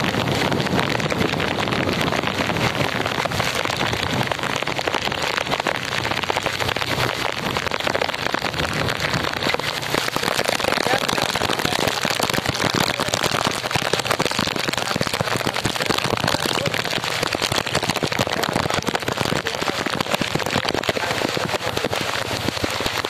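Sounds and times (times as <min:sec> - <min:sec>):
heavy rain patter: 0:00.0 - 0:23.0.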